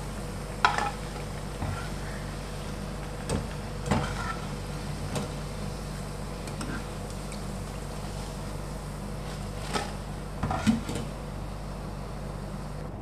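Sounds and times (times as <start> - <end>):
food sizzling in hot oil: 0.0 - 10.7
low steady hum: 0.0 - 13.0.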